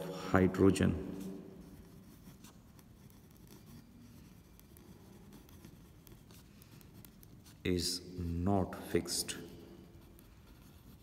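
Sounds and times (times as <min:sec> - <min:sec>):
pen scratching on paper: 0:00.0 - 0:07.6, 0:09.7 - 0:11.0.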